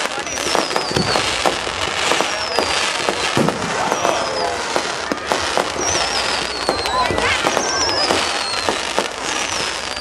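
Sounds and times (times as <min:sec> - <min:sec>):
firework whistles falling in pitch: 0:00.0 - 0:10.0
fireworks bangs and crackles: 0:00.0 - 0:10.0.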